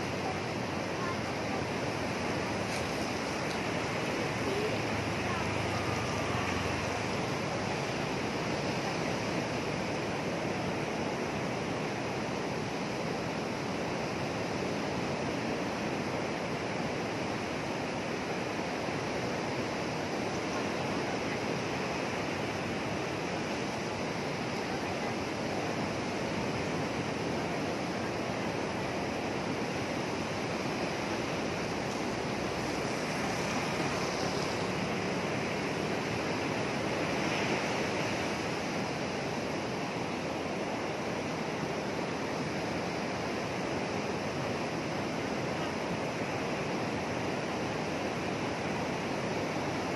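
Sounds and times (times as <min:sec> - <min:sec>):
rough surf breaking on beach: 0:00.0 - 0:49.9.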